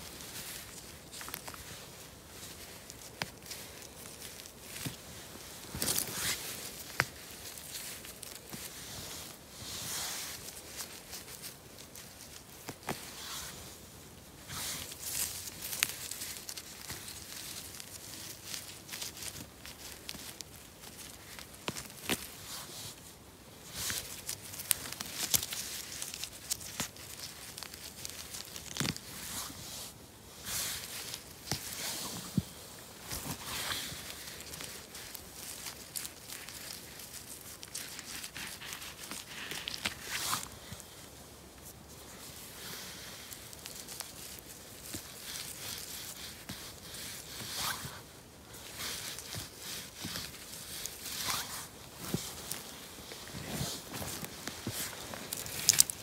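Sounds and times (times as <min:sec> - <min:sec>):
sharp clicks and crinkling: 0:00.0 - 0:09.4, 0:14.4 - 0:29.6, 0:30.5 - 0:56.0
hand rustling through moss: 0:00.0 - 0:56.0.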